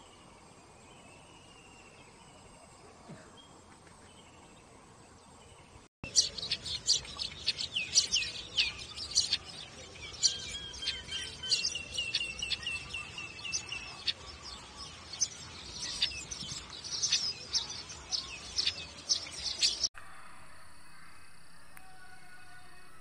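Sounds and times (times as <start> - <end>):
small birds chirping and twittering: 0.0 - 19.9.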